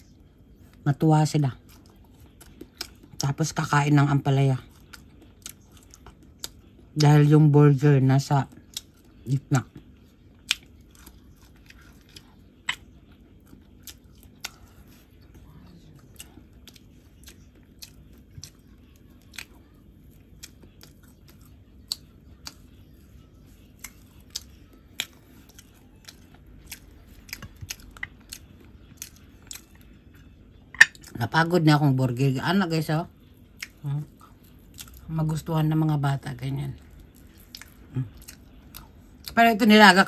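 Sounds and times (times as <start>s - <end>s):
chewing and biting: 0.6s - 7.3s, 8.2s - 31.2s, 33.4s - 35.5s, 36.8s - 39.4s.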